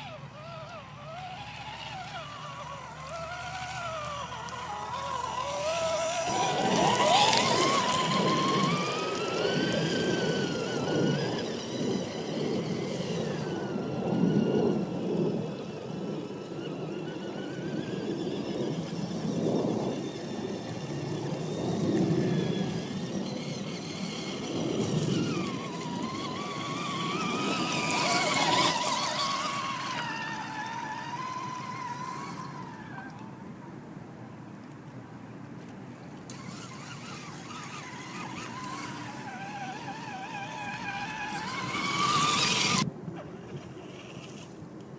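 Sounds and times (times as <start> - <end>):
electric motor whining: 0.0 - 33.4, 36.2 - 44.6
wheels churning mud and water: 0.0 - 33.6, 35.6 - 44.8.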